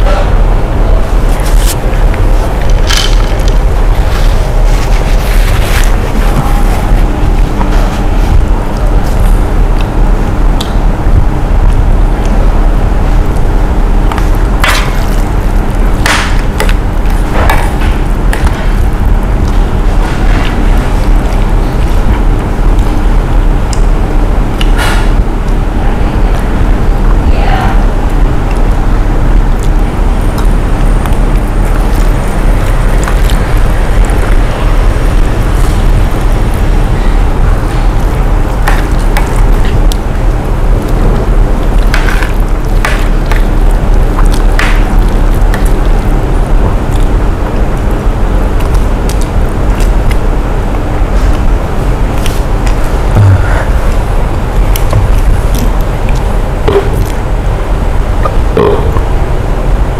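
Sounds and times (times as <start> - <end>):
faint hum: 0.0 - 59.9
steady low rumble: 0.0 - 59.9.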